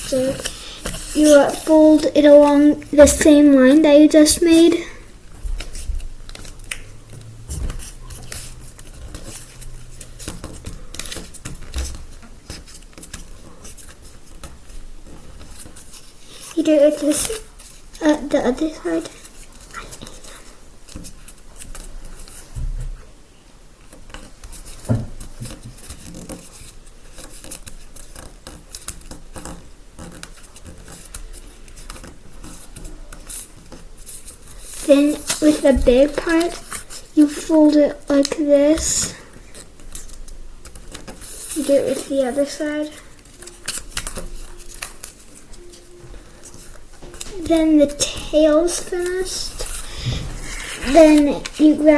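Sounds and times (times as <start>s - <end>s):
paper being folded and creased: 0.0s - 22.6s, 23.9s - 51.9s.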